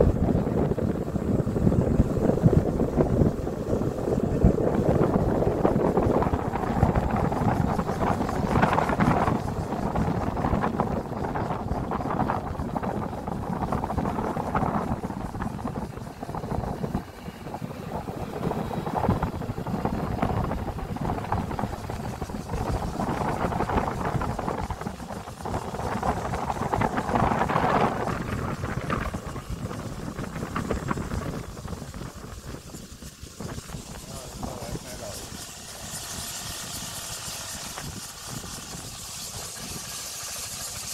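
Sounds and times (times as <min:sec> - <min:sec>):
motorbike ride hum: 0:00.0 - 0:40.9
wind buffeting microphone: 0:00.0 - 0:40.9.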